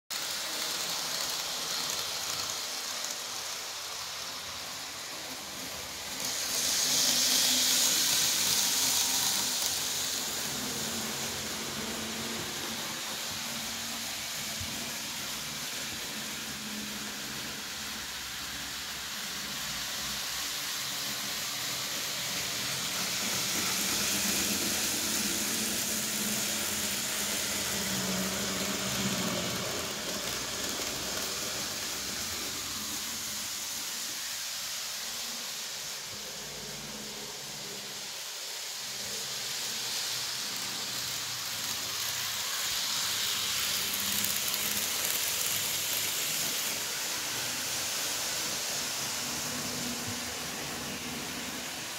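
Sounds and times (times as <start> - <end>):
model train wheels hissing on track: 0.1 - 51.9.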